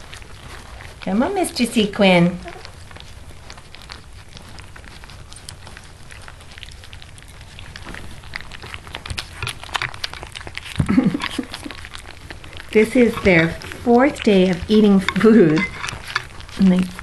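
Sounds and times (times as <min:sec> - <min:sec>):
puppies lapping food: 0:00.0 - 0:17.0.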